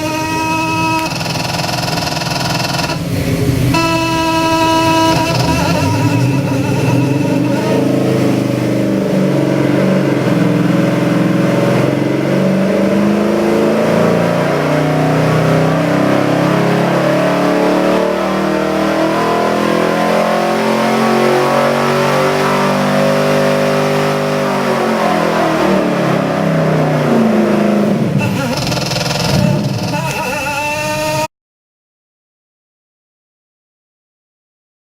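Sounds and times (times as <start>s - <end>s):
engine revving: 0.0s - 31.3s.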